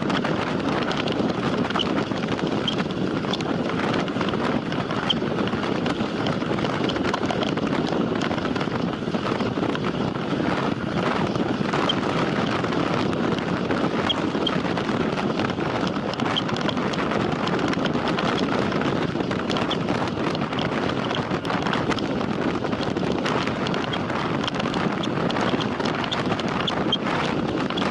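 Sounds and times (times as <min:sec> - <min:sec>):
tyre and road noise: 0:00.0 - 0:27.9
wind rushing over microphone: 0:00.0 - 0:27.9.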